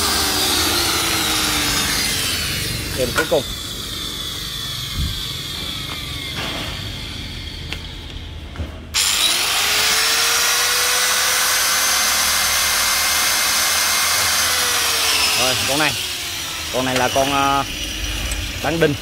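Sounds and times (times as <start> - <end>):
angle grinder motor whine: 0.0 - 19.0
motor coasting down: 0.0 - 19.0.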